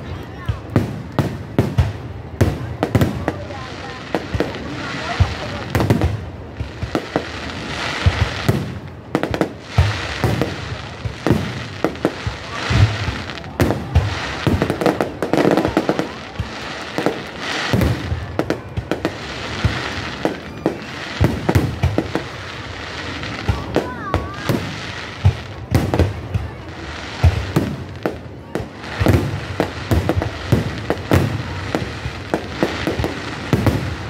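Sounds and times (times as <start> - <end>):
continuous rushing haze: 0.0 - 34.0.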